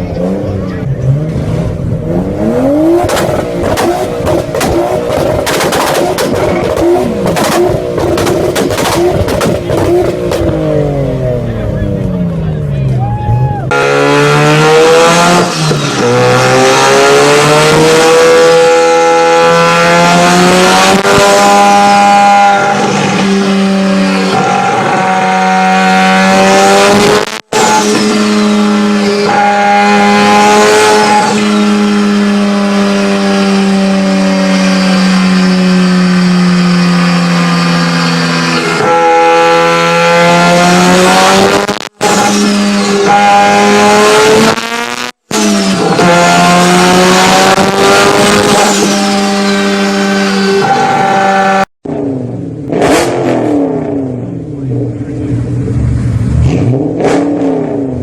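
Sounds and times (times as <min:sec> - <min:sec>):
car engine revving high: 0:00.0 - 0:12.5, 0:13.7 - 0:58.0.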